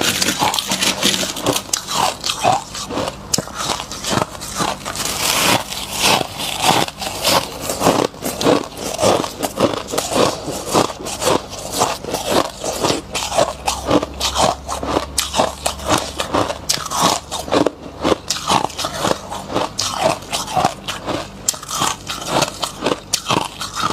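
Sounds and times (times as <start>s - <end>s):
chewing crunchy frost: 0.0s - 23.9s.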